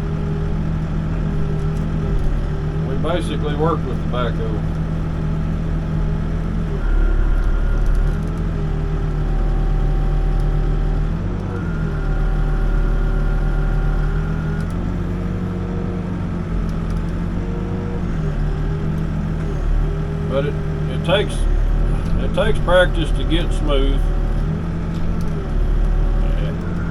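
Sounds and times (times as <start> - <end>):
backhoe diesel engine running: 0.0 - 26.9.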